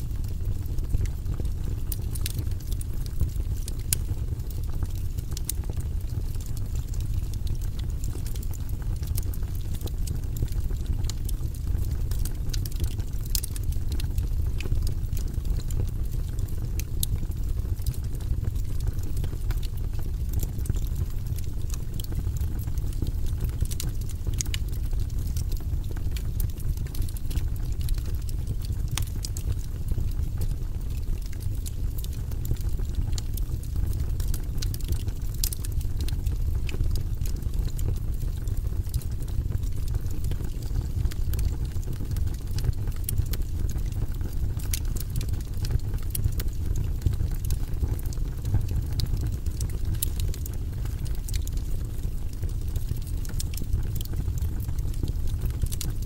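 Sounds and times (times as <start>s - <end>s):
fire rumbling: 0.0s - 56.0s
logs crackling and popping: 0.0s - 56.0s.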